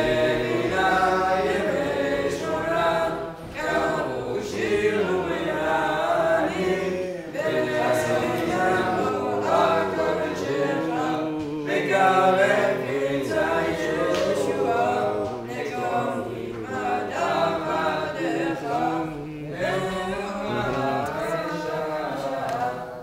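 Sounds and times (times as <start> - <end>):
congregation singing unaccompanied: 0.0 - 23.0.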